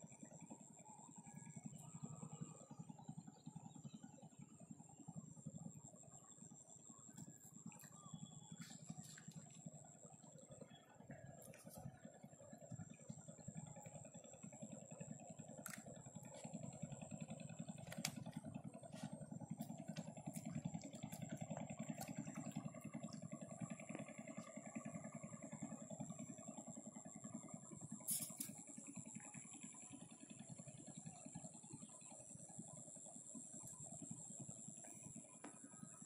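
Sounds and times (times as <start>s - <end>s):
distant engine running: 0.0s - 36.0s.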